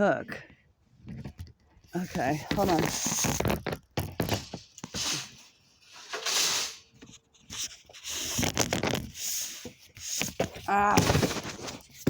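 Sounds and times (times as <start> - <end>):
rustling handling noises: 0.9 - 12.0.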